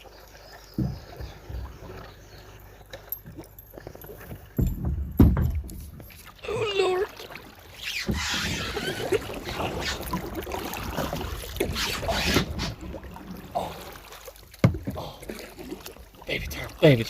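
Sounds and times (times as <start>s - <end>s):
paddle strokes splashing water: 0.0s - 17.0s.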